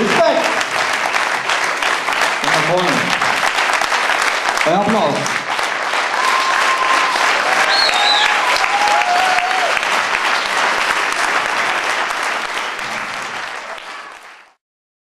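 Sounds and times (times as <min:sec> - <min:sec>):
audience applauding: 0:00.0 - 0:14.6
audience cheering: 0:00.2 - 0:14.6.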